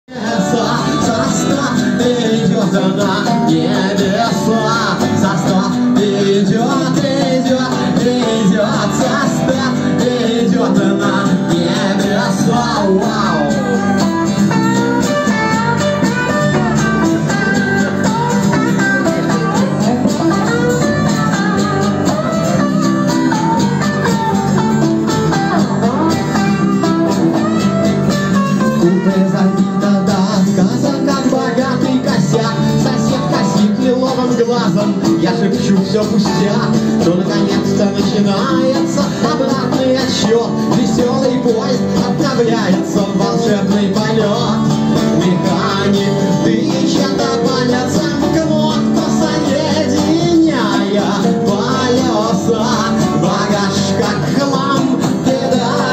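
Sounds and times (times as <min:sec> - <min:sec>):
second guitar chords: 0:00.1 - 0:55.9
strummed acoustic guitar: 0:00.1 - 0:55.9.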